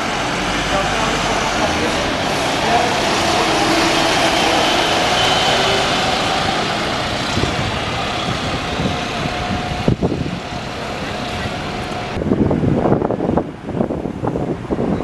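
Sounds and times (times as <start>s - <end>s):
bus engine driving past: 0.0s - 15.0s
city traffic noise: 0.0s - 15.0s.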